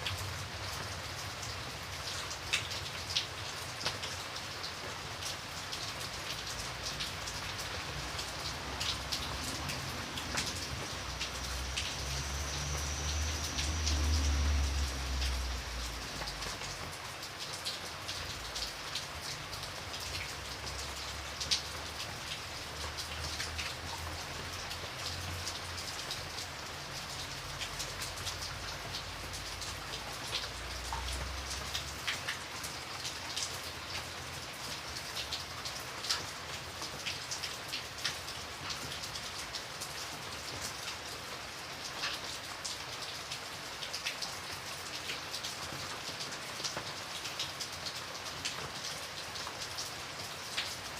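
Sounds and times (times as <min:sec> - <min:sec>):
rain falling: 0:00.0 - 0:50.9.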